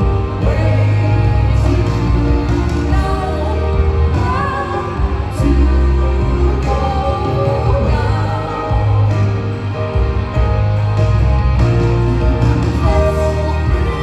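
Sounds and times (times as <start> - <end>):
wordless singing: 0.0 - 10.1, 11.8 - 14.0
live band music: 0.0 - 14.0.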